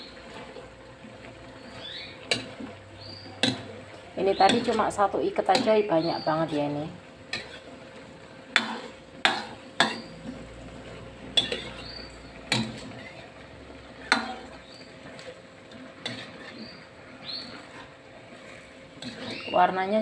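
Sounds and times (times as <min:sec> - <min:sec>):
metal spatula scraping wok: 0:01.6 - 0:13.4, 0:14.0 - 0:20.0.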